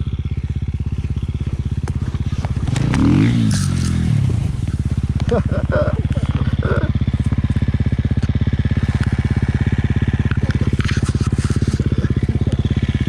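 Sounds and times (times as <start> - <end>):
dirt bike engine chugging: 0.0 - 13.0.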